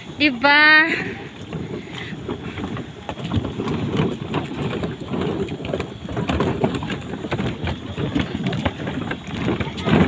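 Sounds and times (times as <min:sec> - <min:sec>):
small waves lapping against dock: 0:00.0 - 0:10.0.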